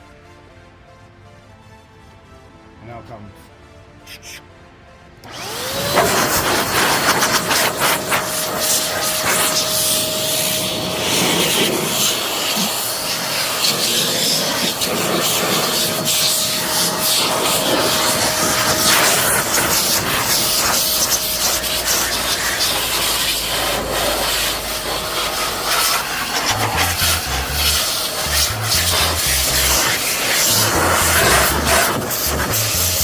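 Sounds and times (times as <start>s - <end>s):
cleaning machine motor whine: 5.2s - 33.0s
loud hissing rush: 5.8s - 33.0s.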